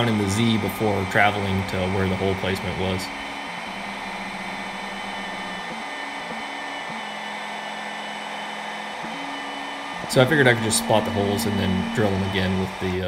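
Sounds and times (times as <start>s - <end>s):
router spindle whine: 0.0s - 13.0s
stepper motors humming: 0.0s - 13.0s.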